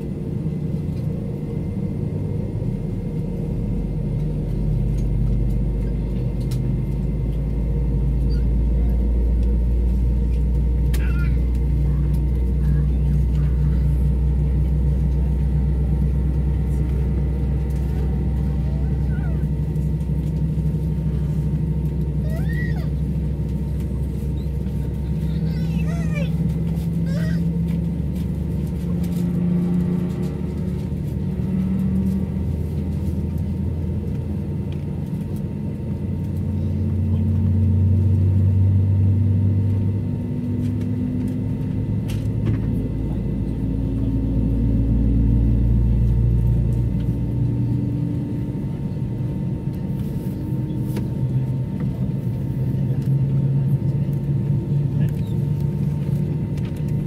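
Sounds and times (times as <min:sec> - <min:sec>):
aircraft cabin engine hum: 0:00.0 - 0:57.0.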